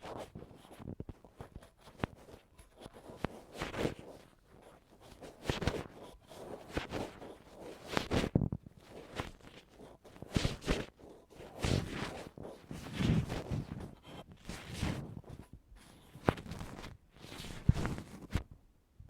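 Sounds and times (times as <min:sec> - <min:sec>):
ear pick scratching and scraping: 0:00.0 - 0:18.5.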